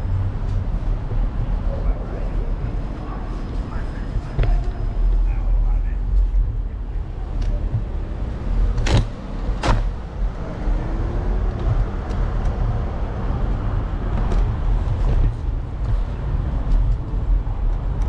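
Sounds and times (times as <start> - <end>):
city traffic: 0.0 - 18.0
wind and wheels rumble: 0.0 - 18.0.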